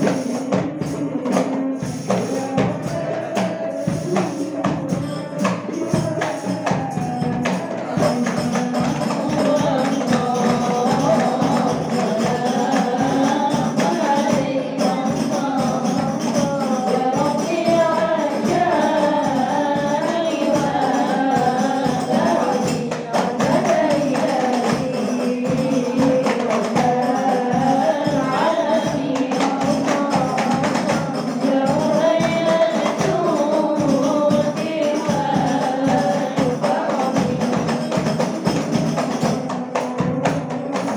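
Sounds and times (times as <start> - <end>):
frame drums beating: 0.0 - 40.9
person singing into a microphone: 0.0 - 40.9.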